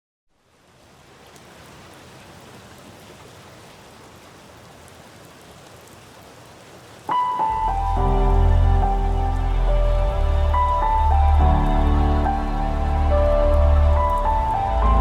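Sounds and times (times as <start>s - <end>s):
steady rain falling: 0.3s - 15.0s.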